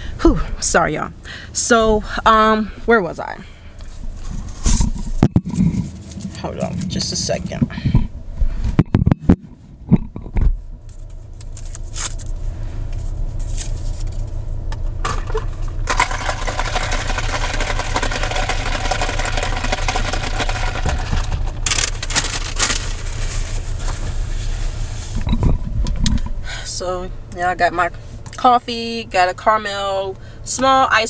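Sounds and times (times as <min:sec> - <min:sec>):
car engine and road noise: 0:00.9 - 0:31.0.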